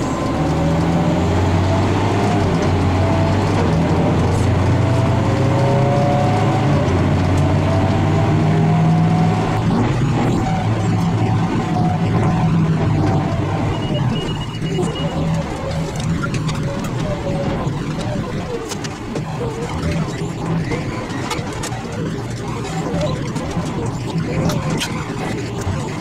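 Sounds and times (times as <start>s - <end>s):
tractor engine running under load: 0.0s - 26.0s
whine rising in pitch: 0.0s - 26.0s.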